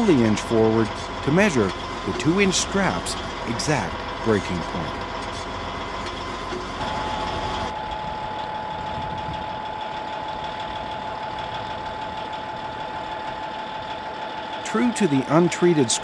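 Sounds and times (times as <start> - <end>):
bulldozer diesel engine under load: 0.0 - 16.0
steady high whine: 0.0 - 16.0.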